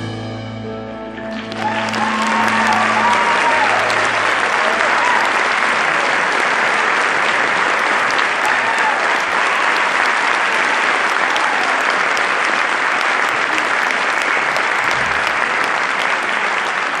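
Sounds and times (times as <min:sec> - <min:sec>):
large audience applauding: 0:01.2 - 0:17.0.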